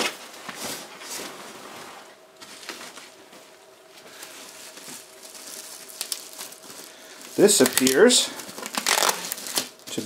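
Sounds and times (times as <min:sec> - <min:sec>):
bubble wrap rustling: 0:00.0 - 0:10.0.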